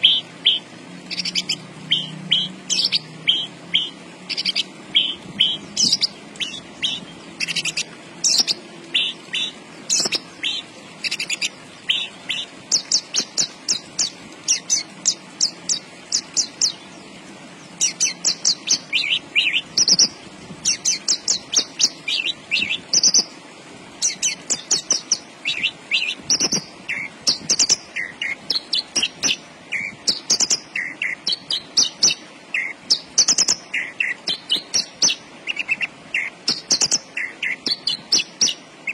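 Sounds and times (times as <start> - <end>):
lark singing high chirps: 0.0 - 17.0, 17.7 - 23.4, 24.0 - 38.9.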